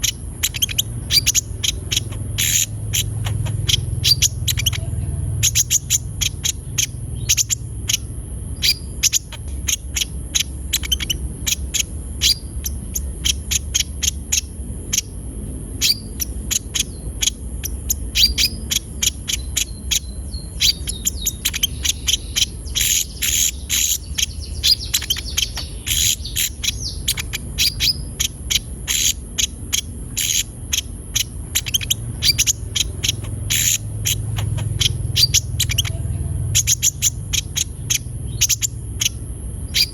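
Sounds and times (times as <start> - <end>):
sunbird chirping: 0.0 - 39.9.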